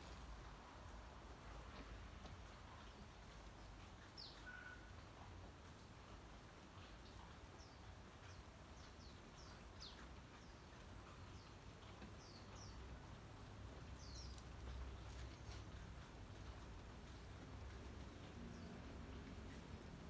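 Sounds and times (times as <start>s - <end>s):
small birds chirping: 2.7s - 20.0s.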